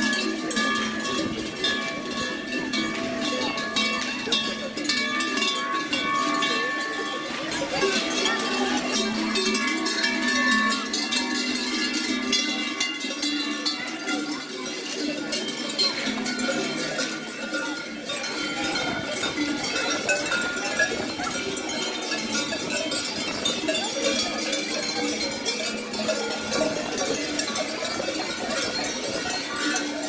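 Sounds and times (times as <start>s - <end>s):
cowbells jangling: 0.0s - 30.0s.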